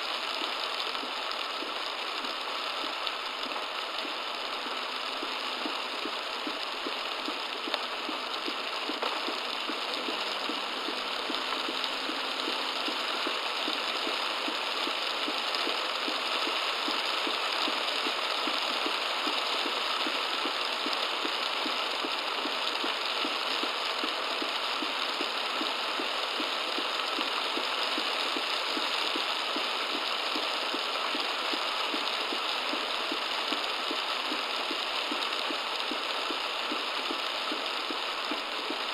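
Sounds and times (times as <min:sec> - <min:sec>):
heavy rain pelting a car: 0:00.0 - 0:38.9.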